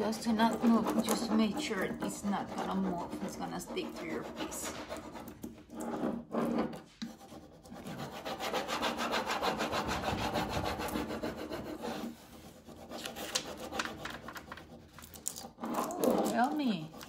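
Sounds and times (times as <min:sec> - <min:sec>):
tool scraping transfer sheet: 0:00.0 - 0:17.0.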